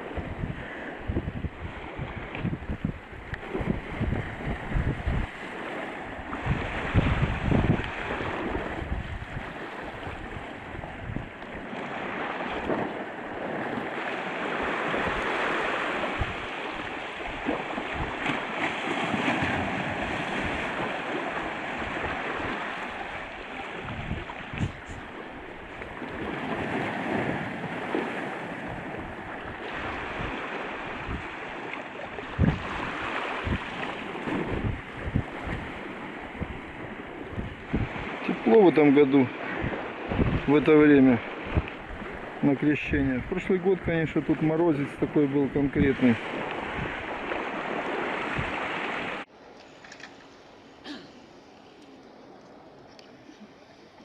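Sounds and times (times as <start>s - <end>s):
wind buffeting microphone: 0.0s - 49.3s
surf washing on shore: 0.0s - 54.0s.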